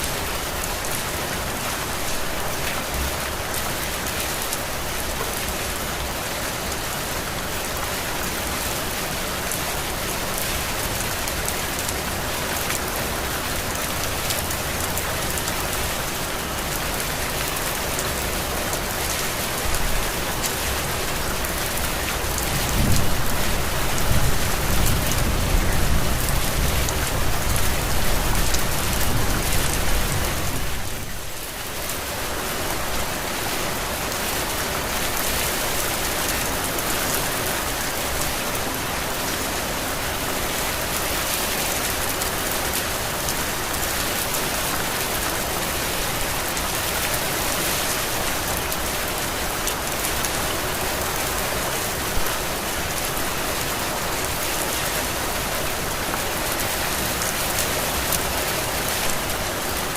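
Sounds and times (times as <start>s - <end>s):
heavy rain on a surface: 0.0s - 59.9s.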